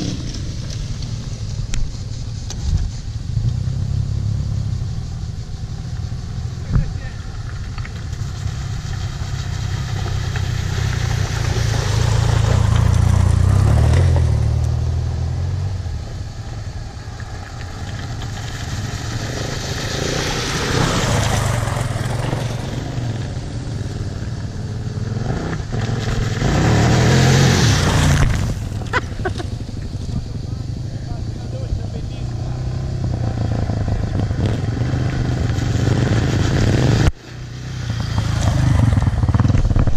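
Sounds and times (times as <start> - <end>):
off-road motorcycles revving: 0.0 - 39.9.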